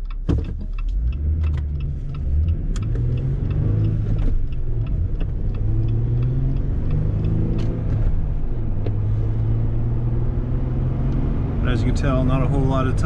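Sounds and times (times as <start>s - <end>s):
car cabin drone: 0.0s - 13.0s
tire hum: 0.0s - 13.0s.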